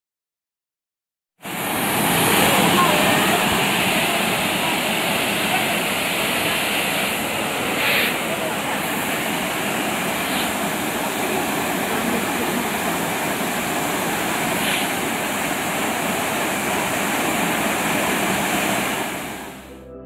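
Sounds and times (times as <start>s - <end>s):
waterfall rushing: 1.4s - 19.7s.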